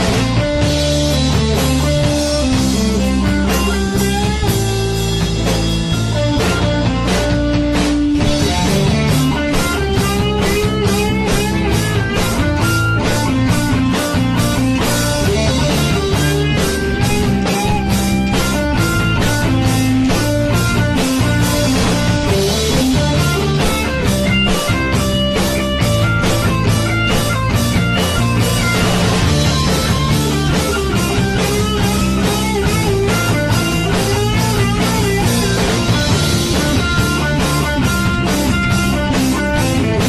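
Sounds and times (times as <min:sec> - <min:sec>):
bass: 0:00.0 - 0:40.0
drum kit steady beat: 0:00.0 - 0:40.0
guitar melodic line: 0:00.0 - 0:40.0.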